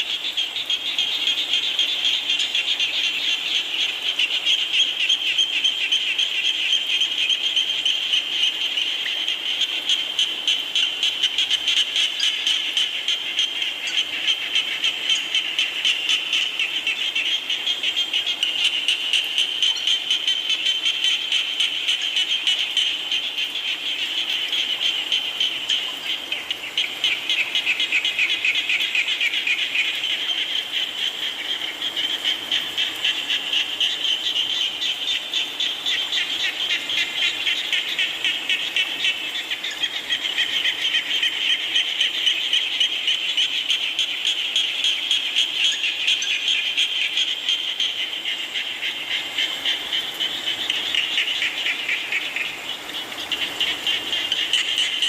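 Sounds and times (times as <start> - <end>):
frogs trilling: 0.0 - 55.0.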